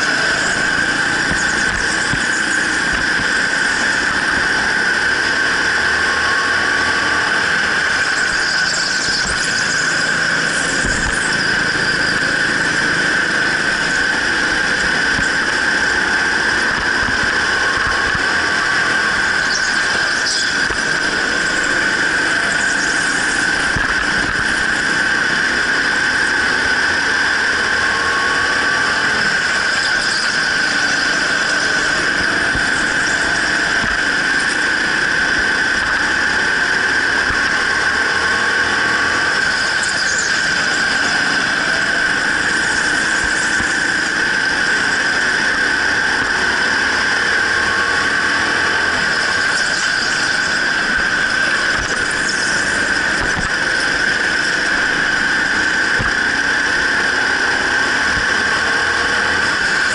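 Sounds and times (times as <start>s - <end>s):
go-kart motor note: 0.0s - 59.9s
high-pitched whine: 0.0s - 59.9s.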